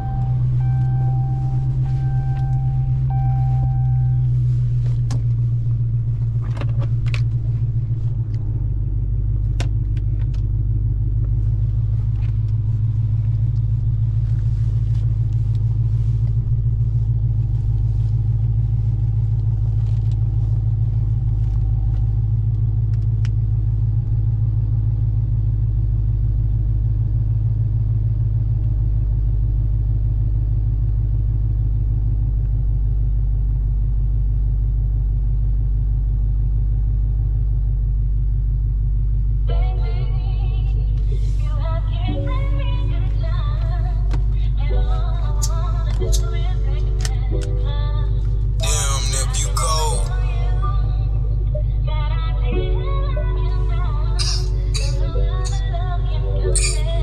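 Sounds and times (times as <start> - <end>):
car engine drone while cruising: 0.0 - 57.0.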